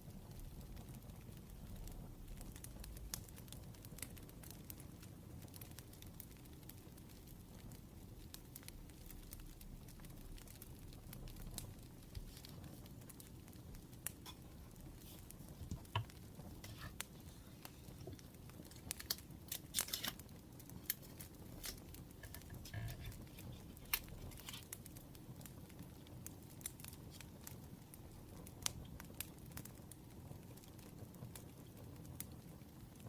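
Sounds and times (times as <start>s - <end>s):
firewood crackling: 0.0s - 33.0s.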